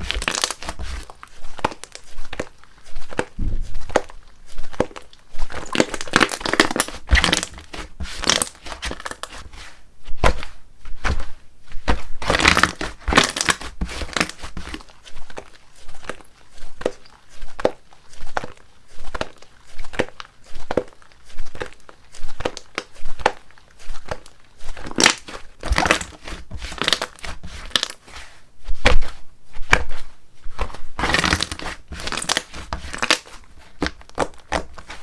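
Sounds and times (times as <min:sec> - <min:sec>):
slime squished by hand: 0:00.0 - 0:28.0, 0:28.8 - 0:35.0.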